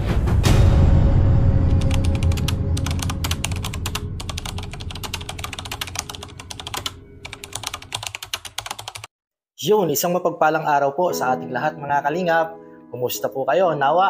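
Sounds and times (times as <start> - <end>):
low music: 0.0 - 8.2, 10.0 - 14.0.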